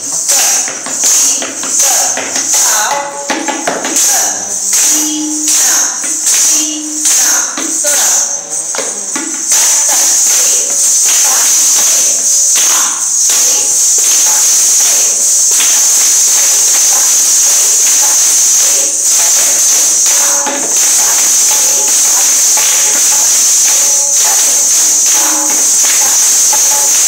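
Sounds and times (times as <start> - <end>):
stamping footwork: 0.0 - 27.0.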